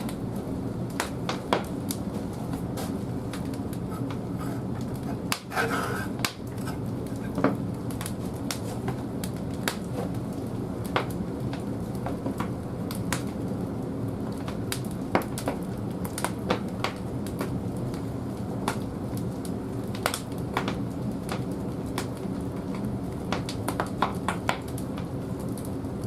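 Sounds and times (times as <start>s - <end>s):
wood fire roaring and crackling: 0.0s - 26.0s.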